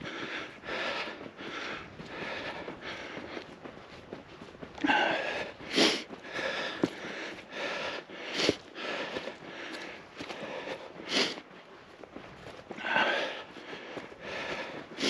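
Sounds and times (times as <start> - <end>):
person breathing heavily: 0.0 - 15.0.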